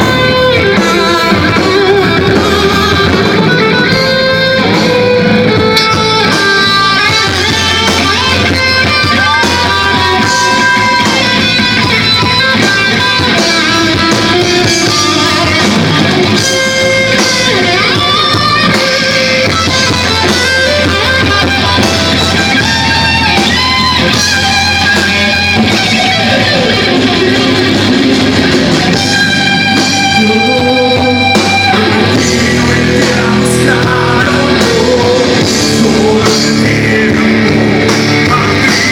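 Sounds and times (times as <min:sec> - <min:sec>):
drums: 0:00.0 - 0:38.9
electric guitar bent notes: 0:00.0 - 0:38.9
strummed guitar: 0:00.0 - 0:38.9.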